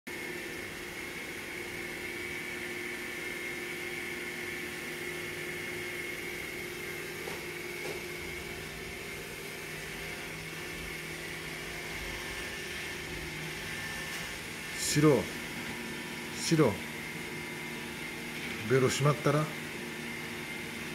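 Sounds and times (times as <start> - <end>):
appliance humming with whine: 0.1 - 20.9.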